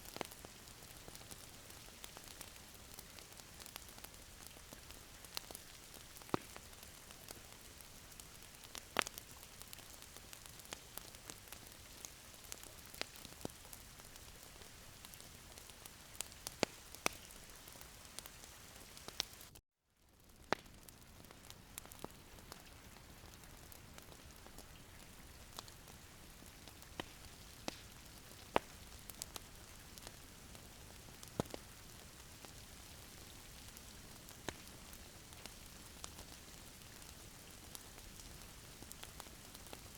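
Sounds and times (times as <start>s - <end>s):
wood fire crackling in fireplace: 0.0s - 39.9s.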